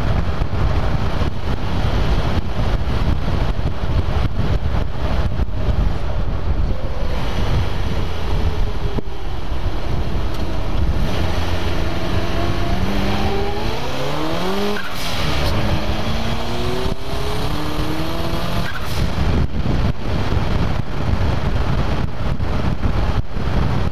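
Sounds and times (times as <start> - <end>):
truck engine accelerating: 0.0 - 23.8
wind rumble on microphone: 0.0 - 23.9.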